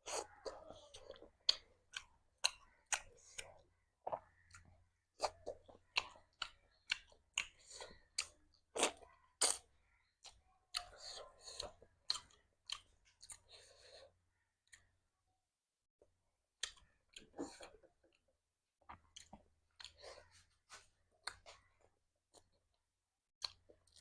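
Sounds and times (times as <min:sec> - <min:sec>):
chewing and wet mouth smacking: 0:00.0 - 0:13.7, 0:16.6 - 0:22.8, 0:23.4 - 0:24.0.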